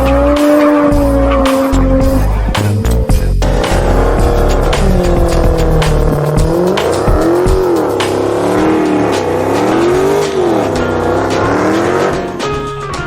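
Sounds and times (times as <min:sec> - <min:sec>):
car engine revving: 0:00.0 - 0:12.6
background music: 0:00.0 - 0:13.0.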